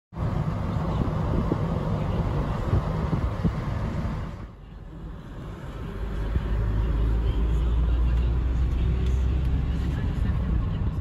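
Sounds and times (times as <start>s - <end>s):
road and wind noise in car: 0.1s - 11.0s.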